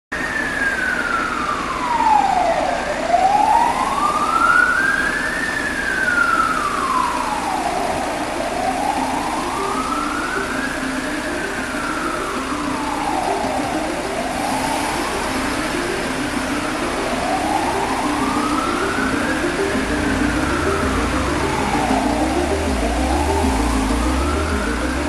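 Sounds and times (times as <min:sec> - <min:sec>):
city traffic hum: 0:00.2 - 0:25.0
emergency siren wailing: 0:00.2 - 0:25.0.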